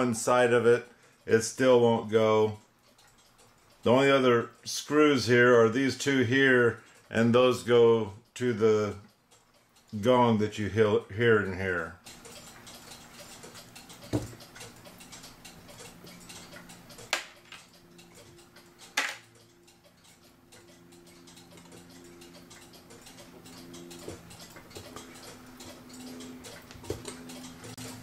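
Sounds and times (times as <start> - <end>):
mechanical clock ticking: 0.0 - 28.0
sharp clicks from clock hands: 0.0 - 28.0.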